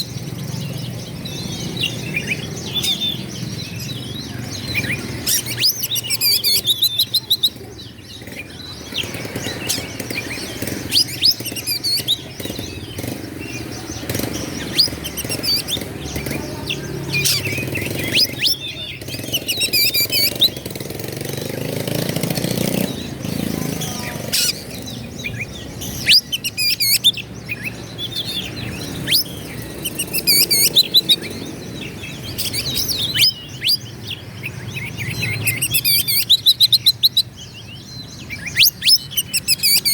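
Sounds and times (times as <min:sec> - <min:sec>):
bird singing warbling phrases: 0:00.0 - 0:39.9.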